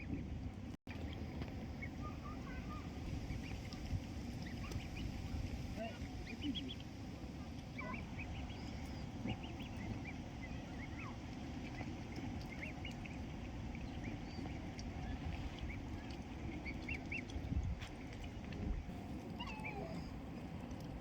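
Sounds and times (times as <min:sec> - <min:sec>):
low background rumble: 0:00.0 - 0:21.0
birds chirping: 0:00.9 - 0:20.9.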